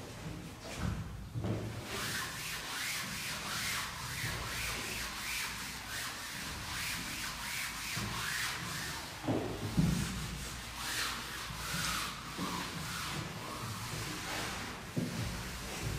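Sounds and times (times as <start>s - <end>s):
eraser wiping chalkboard: 1.7s - 15.9s.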